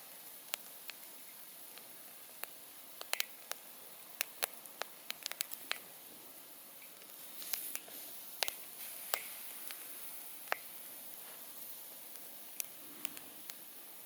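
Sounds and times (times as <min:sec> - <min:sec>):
campfire crackles and pops: 0:00.0 - 0:14.0
hiss of flames: 0:00.0 - 0:14.0.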